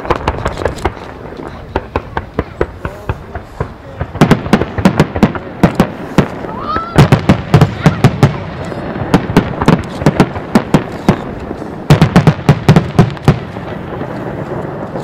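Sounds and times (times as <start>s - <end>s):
fireworks bursting in rapid volleys: 0.0s - 15.0s.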